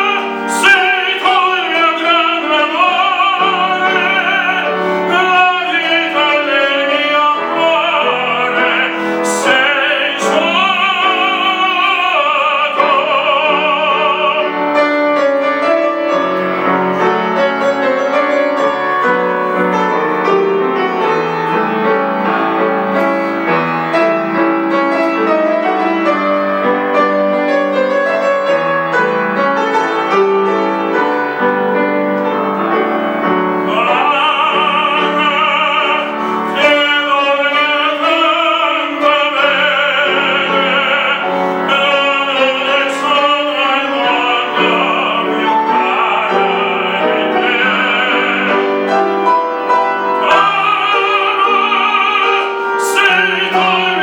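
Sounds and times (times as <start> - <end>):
classical singing with vibrato: 0.0 - 54.0
piano playing: 0.0 - 54.0.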